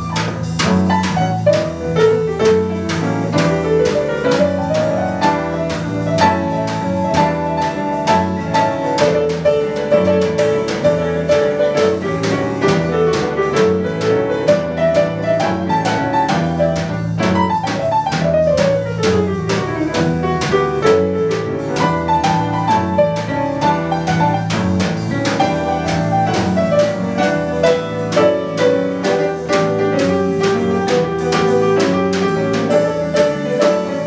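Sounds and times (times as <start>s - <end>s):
drum kit cymbals: 0.0s - 34.0s
low bass line: 0.0s - 34.0s
piano melody: 0.0s - 34.0s.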